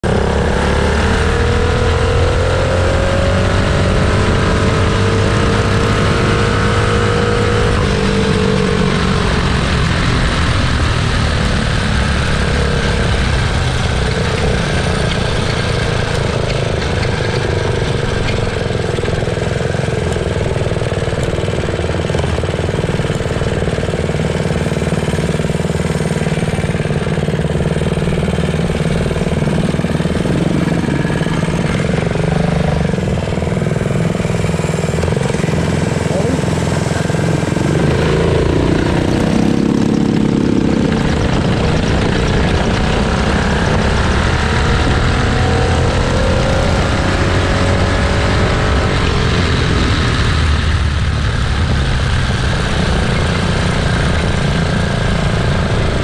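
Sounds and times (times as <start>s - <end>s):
mini bike engines at full throttle: 0.0s - 56.0s.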